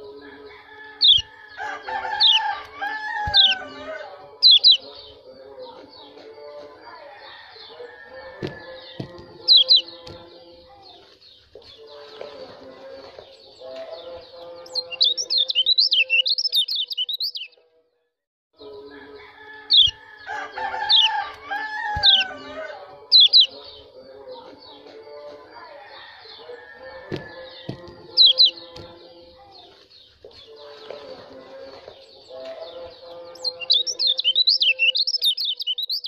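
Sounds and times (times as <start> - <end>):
bird chirping and twittering: 0.5 - 17.6, 19.7 - 36.0.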